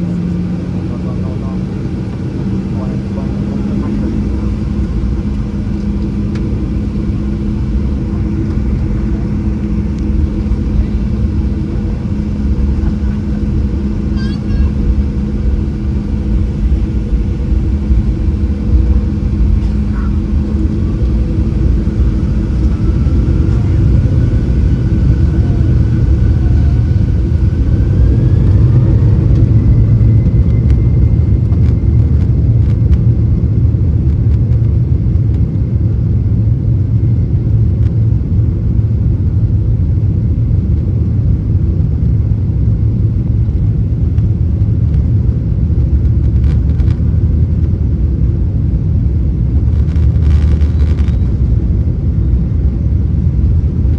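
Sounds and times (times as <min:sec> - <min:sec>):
jet engine whine rising: 0:00.0 - 0:53.9
loud low engine rumble: 0:00.0 - 0:53.9.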